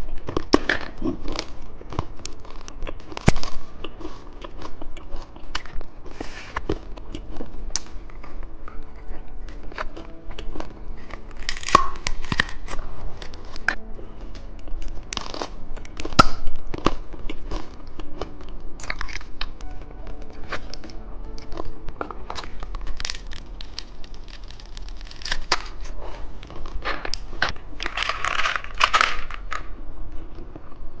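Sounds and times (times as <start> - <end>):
plastic packaging crinkling and tearing: 0.0 - 29.8.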